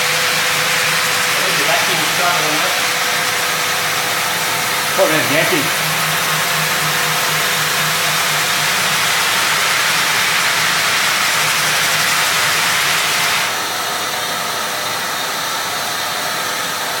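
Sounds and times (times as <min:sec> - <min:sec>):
floor sander grinding: 0:00.0 - 0:17.0.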